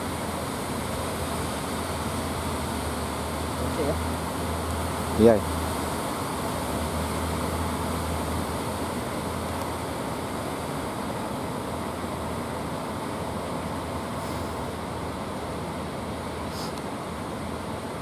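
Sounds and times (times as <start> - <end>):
boat engine hum: 0.0 - 18.0.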